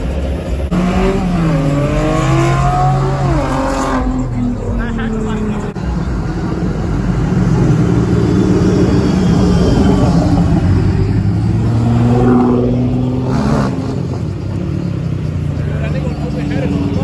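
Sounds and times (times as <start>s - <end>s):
car accelerating: 0.0s - 17.0s
cars driving past loudly: 0.0s - 17.0s.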